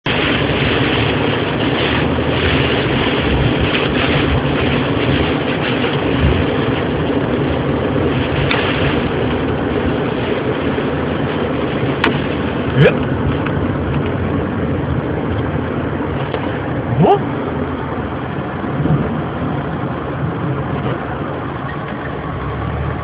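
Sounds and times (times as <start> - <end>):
hail and rain pelting down: 0.1 - 23.0.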